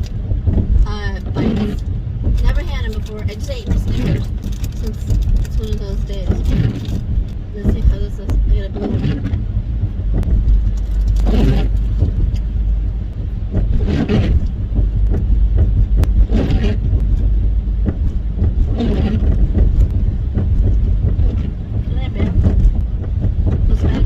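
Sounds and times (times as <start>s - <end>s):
road and engine rumble in van: 0.0s - 24.0s
windshield wipers swishing: 0.0s - 24.0s.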